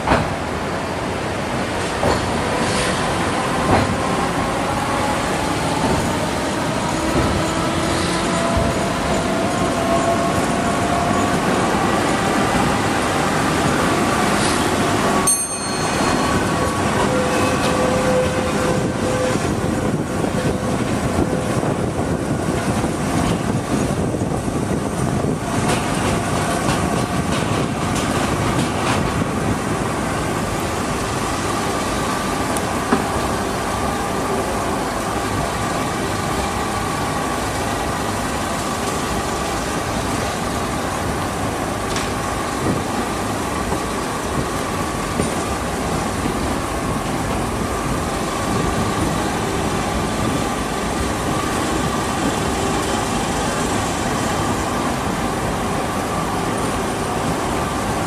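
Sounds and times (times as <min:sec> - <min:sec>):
tram wheels rumbling on rail: 0:00.0 - 0:58.0.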